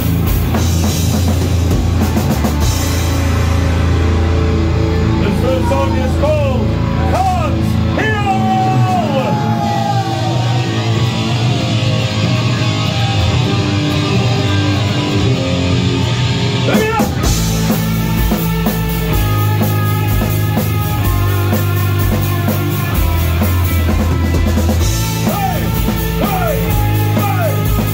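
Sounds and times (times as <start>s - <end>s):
bass guitar: 0.0s - 27.9s
drums: 0.0s - 27.9s
electric guitars: 0.0s - 27.9s.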